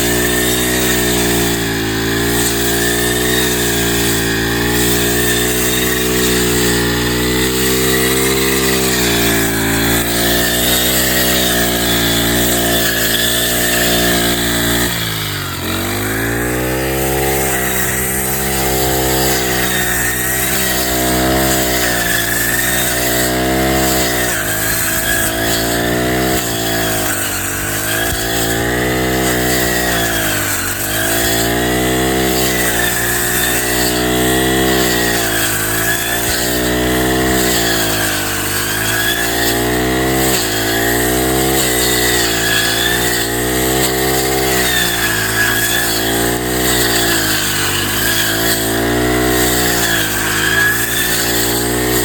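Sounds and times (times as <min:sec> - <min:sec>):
brush cutter engine cutting grass: 0:00.0 - 0:52.0.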